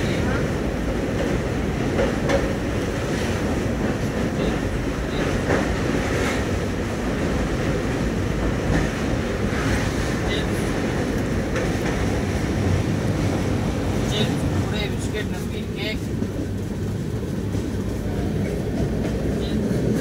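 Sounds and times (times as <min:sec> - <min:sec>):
train rumbling from inside: 0:00.0 - 0:20.0.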